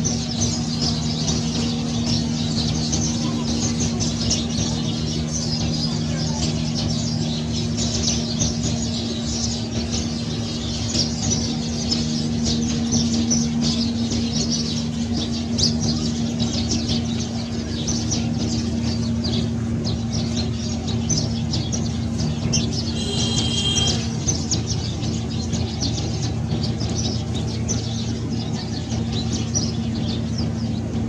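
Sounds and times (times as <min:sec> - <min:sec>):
birds chirping: 0:00.0 - 0:31.0
steady low hum: 0:00.0 - 0:31.0.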